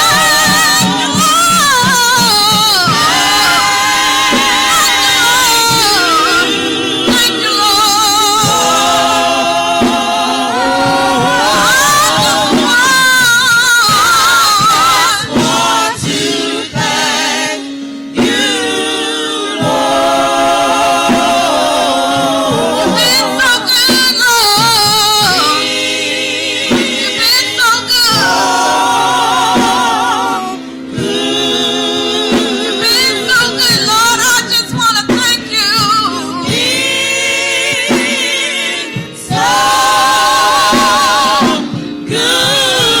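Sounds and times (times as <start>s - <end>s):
gospel singing: 0.0s - 43.0s.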